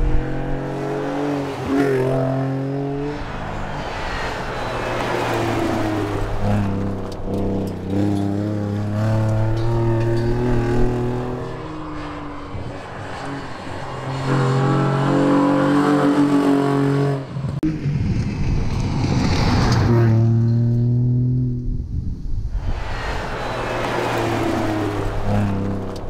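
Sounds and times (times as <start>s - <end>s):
rally car engine revving: 0.0s - 18.0s, 23.0s - 26.0s.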